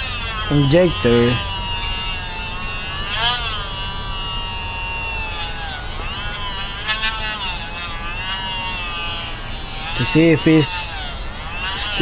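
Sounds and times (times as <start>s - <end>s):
rotary tool high whine: 0.0s - 12.0s.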